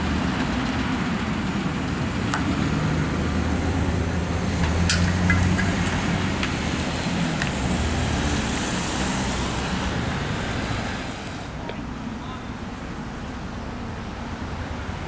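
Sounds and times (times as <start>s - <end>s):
ambulance engine pulling away: 0.0s - 15.0s
car passing with tyre noise: 0.0s - 15.0s.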